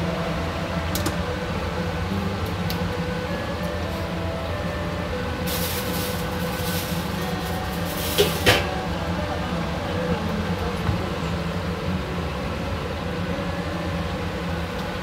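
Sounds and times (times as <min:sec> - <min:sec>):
induction hob humming: 0:00.0 - 0:15.0.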